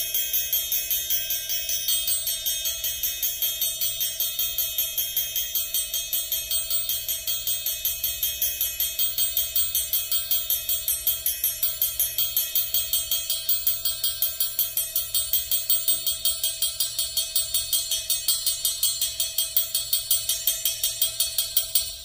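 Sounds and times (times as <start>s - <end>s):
triangle tapped with beater: 0.0s - 22.0s.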